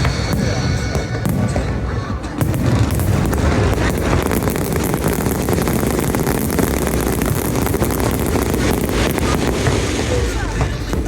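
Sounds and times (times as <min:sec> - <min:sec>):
fireworks crackling: 0:00.0 - 0:11.0
fireworks low rumble: 0:00.0 - 0:11.0.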